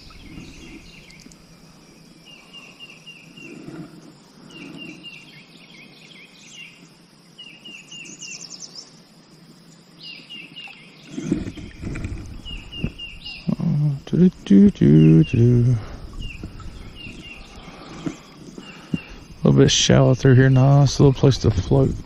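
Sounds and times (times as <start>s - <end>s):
faint outdoor ambience: 0.0s - 22.0s
songbird singing: 0.0s - 22.0s.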